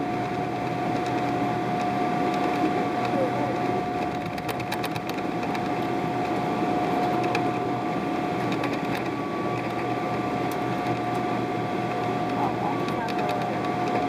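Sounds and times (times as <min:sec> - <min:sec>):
steady whine: 0:00.0 - 0:14.0
faint clicks and rattles: 0:00.2 - 0:06.4, 0:07.0 - 0:07.5, 0:08.4 - 0:11.3, 0:11.9 - 0:14.0.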